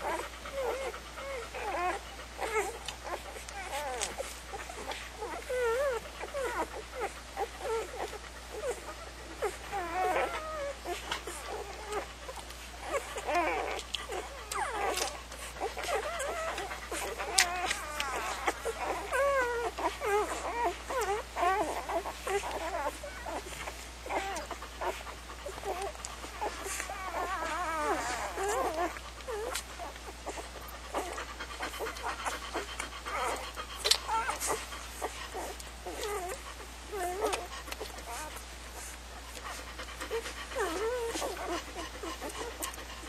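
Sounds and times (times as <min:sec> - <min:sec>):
puppies squeaking and whimpering: 0:00.0 - 0:43.0.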